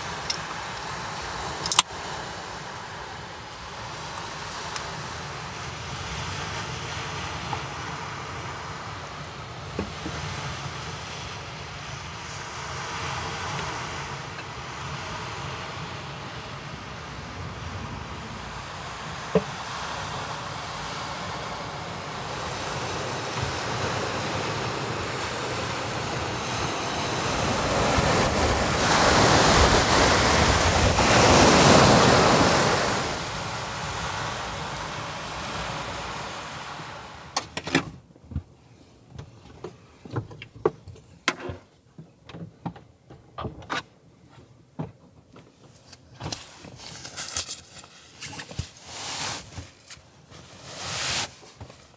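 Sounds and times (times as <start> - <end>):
surf washing on a beach: 0.0 - 37.8, 46.3 - 51.9.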